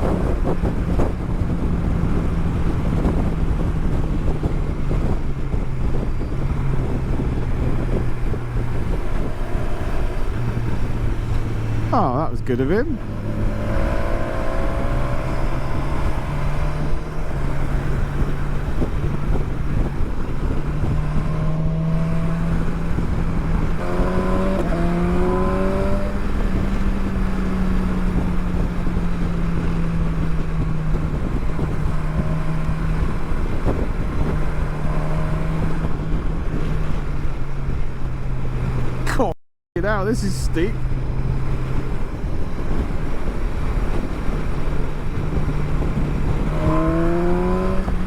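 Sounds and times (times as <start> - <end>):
wind rushing: 0.0 - 12.3, 12.9 - 39.2, 39.8 - 48.0.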